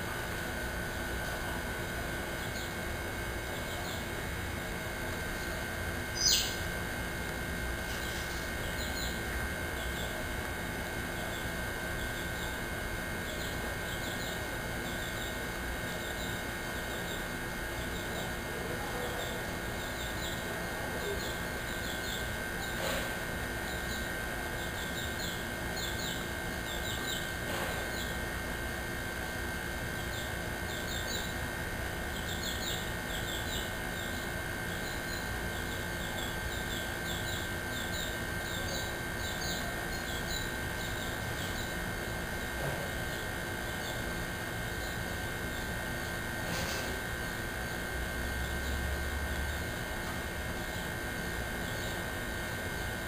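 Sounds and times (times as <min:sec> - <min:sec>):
birds chirping: 0:00.5 - 0:28.3, 0:30.0 - 0:53.0.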